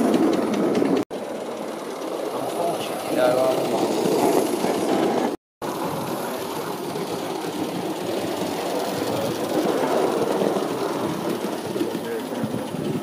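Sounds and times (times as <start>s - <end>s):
model steam railcar running: 0.0s - 13.0s
steam hiss: 1.2s - 13.0s.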